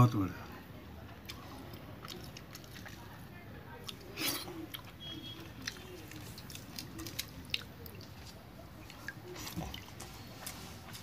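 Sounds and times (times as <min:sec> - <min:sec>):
chewing: 0:01.1 - 0:11.0.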